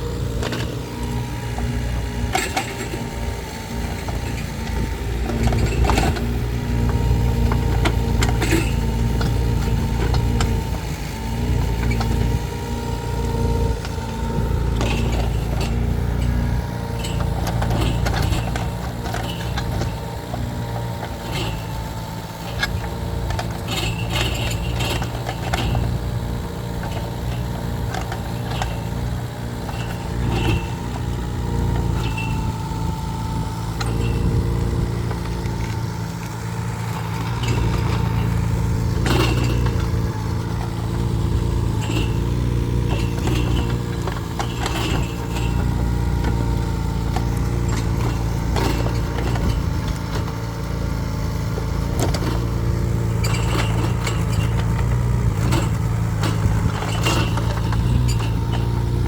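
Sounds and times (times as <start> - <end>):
excavator engine running: 0.0 - 59.0
knocks and scrapes: 0.3 - 59.0.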